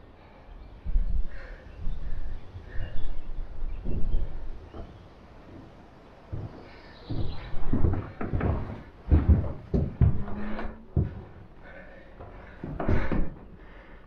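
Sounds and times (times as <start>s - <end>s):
footsteps on wooden floor: 0.8s - 13.9s.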